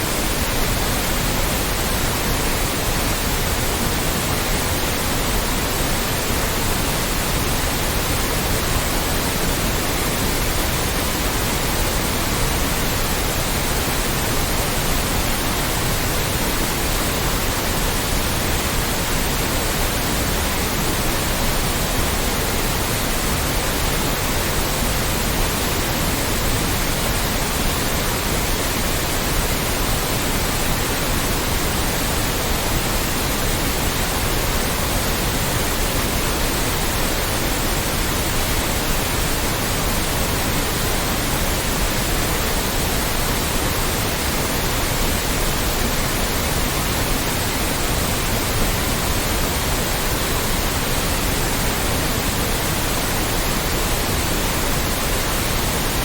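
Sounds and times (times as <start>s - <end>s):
loud white noise: 0.0s - 56.0s.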